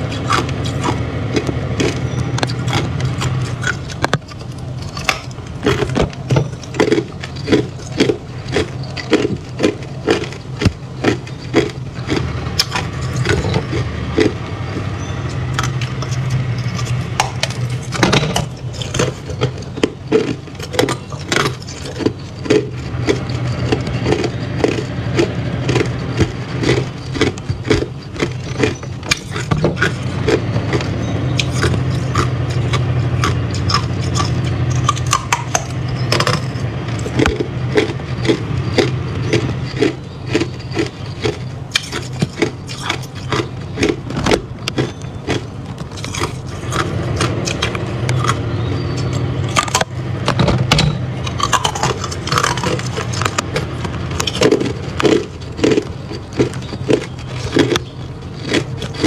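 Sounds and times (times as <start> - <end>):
ice being chewed: 0.0 - 59.0
steady low hum: 0.0 - 59.0.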